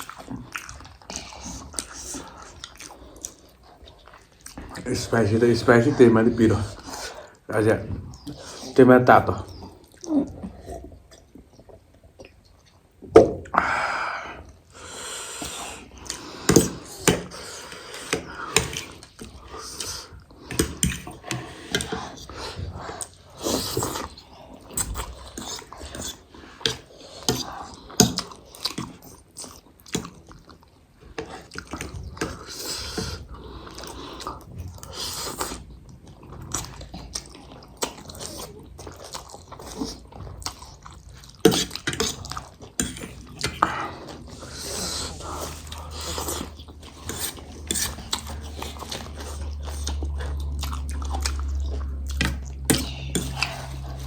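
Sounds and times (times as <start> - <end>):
chewing and eating noises: 0.0 - 54.0.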